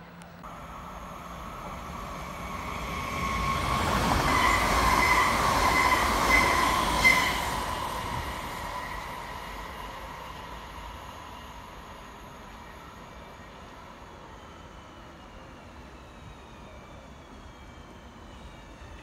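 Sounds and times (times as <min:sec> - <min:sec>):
electric train passing at speed: 0:00.0 - 0:19.0
train whine: 0:00.0 - 0:19.0.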